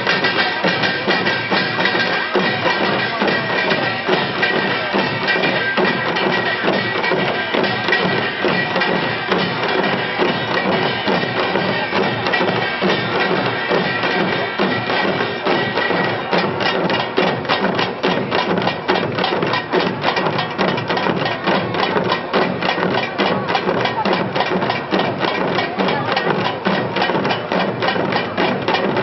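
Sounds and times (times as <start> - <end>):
hourglass drums ensemble playing: 0.0 - 29.0.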